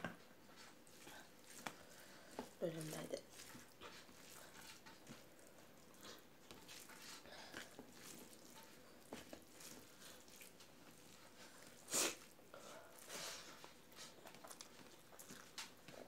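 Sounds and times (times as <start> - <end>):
fingers mixing rice on steel plate: 0.4 - 16.0.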